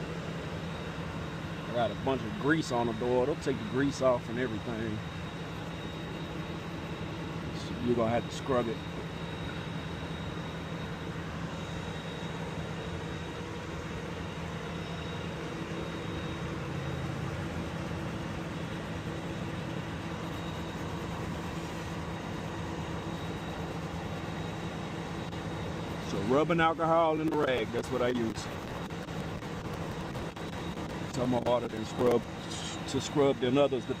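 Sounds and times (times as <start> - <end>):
engine idling hum: 0.0 - 34.0
faint high whine: 0.0 - 34.0.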